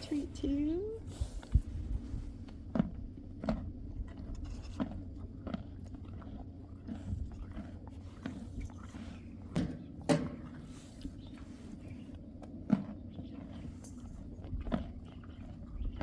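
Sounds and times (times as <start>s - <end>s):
donkey crunching carrots: 1.0s - 16.0s.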